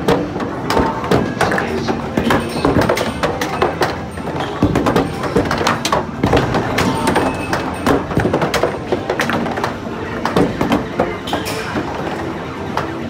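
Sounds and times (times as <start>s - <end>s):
arcade machines din: 0.0s - 13.0s
balls knocking and clattering: 0.0s - 13.0s.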